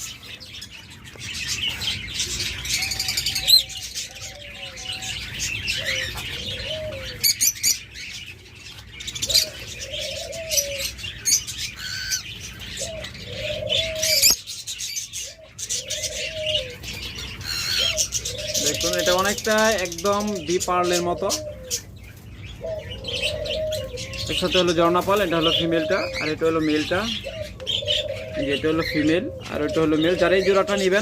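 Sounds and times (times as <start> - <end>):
doves cooing: 0.0 - 31.0
small birds chirping: 0.0 - 31.0.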